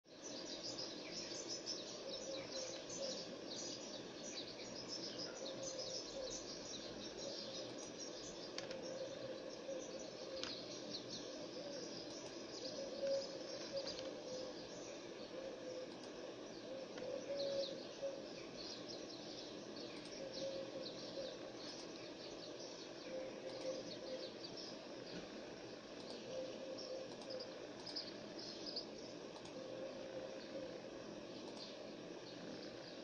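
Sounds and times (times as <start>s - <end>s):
small birds chirping: 0.0s - 33.0s
steady low hum: 0.1s - 33.0s.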